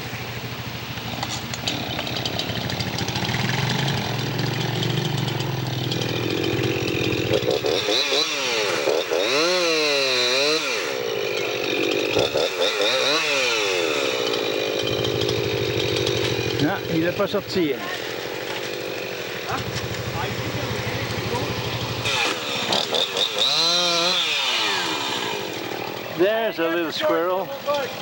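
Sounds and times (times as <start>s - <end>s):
chainsaw cutting wood: 1.2s - 28.0s.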